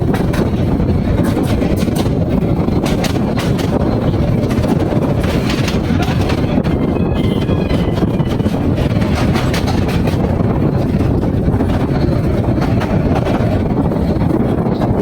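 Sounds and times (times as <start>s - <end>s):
train rumble: 0.0s - 15.0s
wheels clicking over rails: 0.0s - 15.0s.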